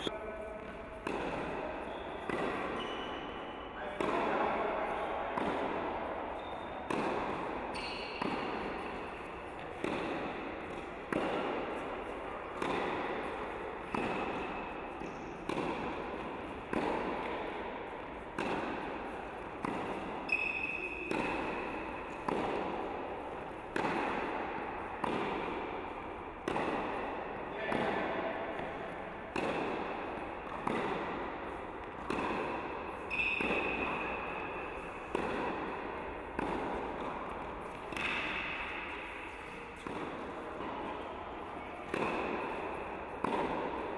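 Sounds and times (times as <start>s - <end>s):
tennis ball struck by racket: 0.6s - 3.3s, 4.0s - 4.6s, 5.4s - 43.9s.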